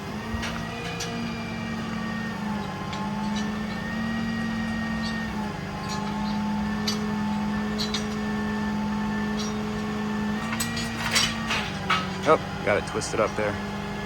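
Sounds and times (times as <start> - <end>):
hydraulic crane humming: 0.0 - 14.0.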